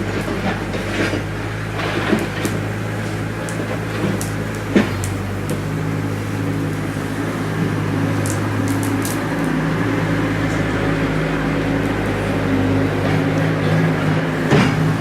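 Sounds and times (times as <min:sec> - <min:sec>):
loader engine droning: 0:00.0 - 0:15.0.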